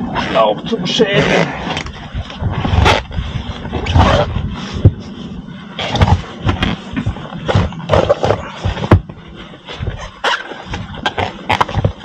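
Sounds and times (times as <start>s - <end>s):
heavy rubber rubbing and squeaking: 0.0s - 12.0s.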